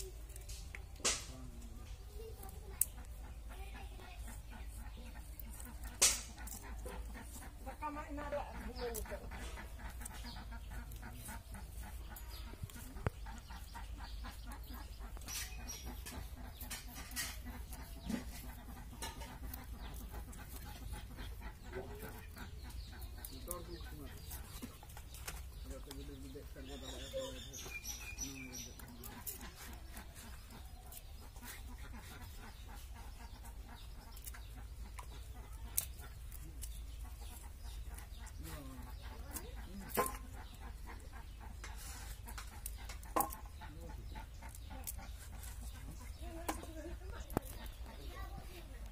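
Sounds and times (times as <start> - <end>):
chickens clucking: 0.0 - 48.9
blade scraping gourd rind: 4.3 - 7.8, 8.6 - 26.0, 26.7 - 48.0.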